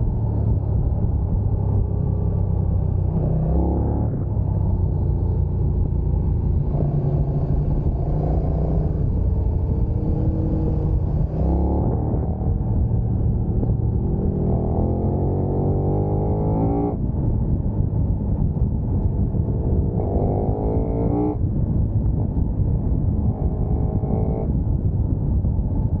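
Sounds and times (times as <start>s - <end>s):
motorcycle engine accelerating: 0.0s - 26.0s
wind rumble: 0.0s - 26.0s.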